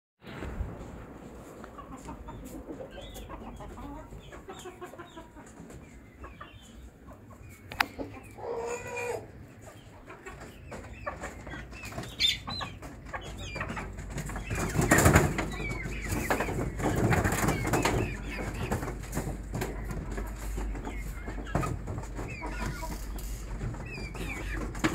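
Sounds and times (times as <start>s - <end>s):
chickens clucking: 0.4s - 24.9s
wire-mesh coop clattering: 1.4s - 24.9s.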